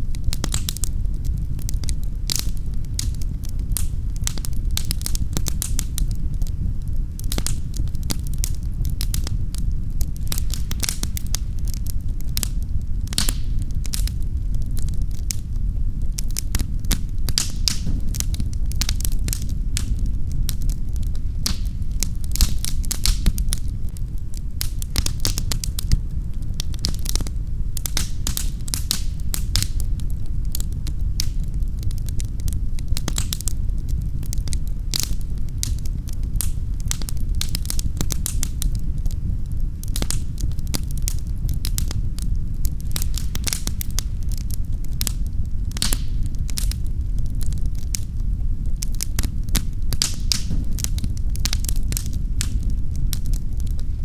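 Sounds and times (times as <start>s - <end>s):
fire crackling and popping: 0.0s - 54.0s
flames rumbling: 0.0s - 54.0s.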